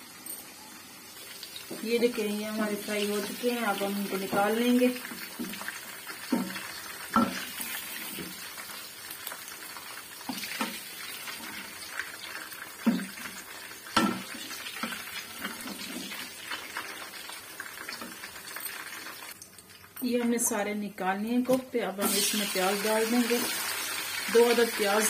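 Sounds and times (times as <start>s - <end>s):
oil sizzling: 0.0s - 20.5s, 21.3s - 25.0s.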